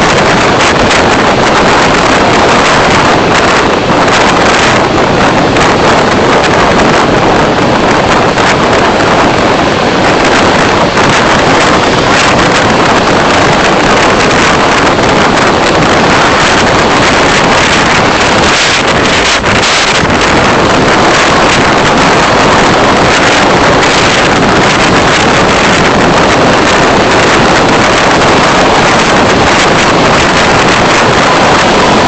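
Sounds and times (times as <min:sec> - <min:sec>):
road and wind noise: 0:00.0 - 0:32.0
wind buffeting microphone: 0:00.0 - 0:32.0.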